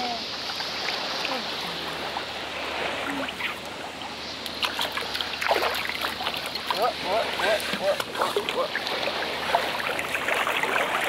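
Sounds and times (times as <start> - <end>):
sea water lapping: 0.0 - 11.0
small water splashes: 0.0 - 11.0.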